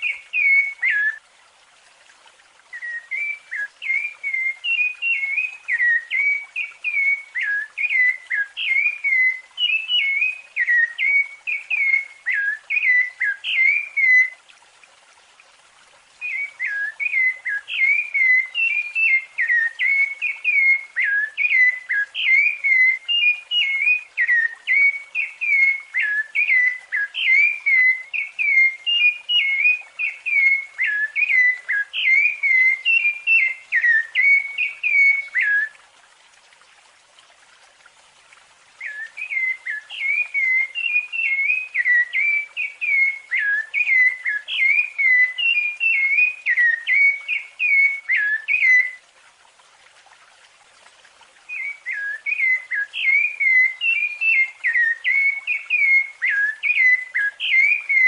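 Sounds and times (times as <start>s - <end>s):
thrush singing whistled notes: 0.0s - 1.2s, 2.7s - 14.4s, 16.2s - 35.8s, 38.8s - 49.0s, 51.4s - 58.0s.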